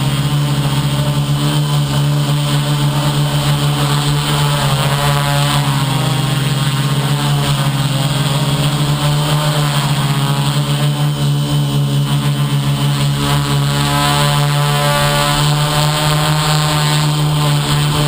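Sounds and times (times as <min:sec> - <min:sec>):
model aircraft motor buzzing: 0:00.0 - 0:18.0.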